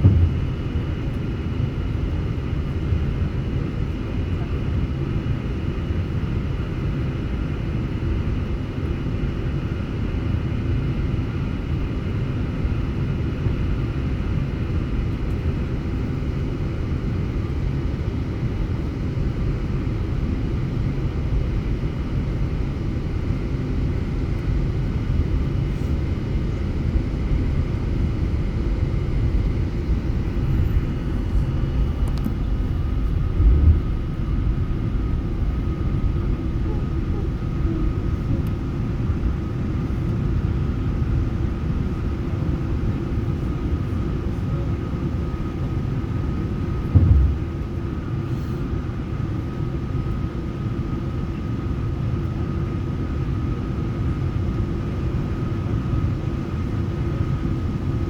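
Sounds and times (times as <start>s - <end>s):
airliner low rumble: 0.0s - 58.0s.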